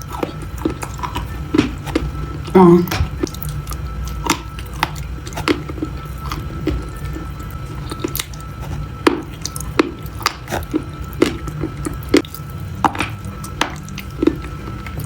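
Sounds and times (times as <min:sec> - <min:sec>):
crisp food crunches: 0:00.0 - 0:15.0
soft wet chewing: 0:00.0 - 0:15.0.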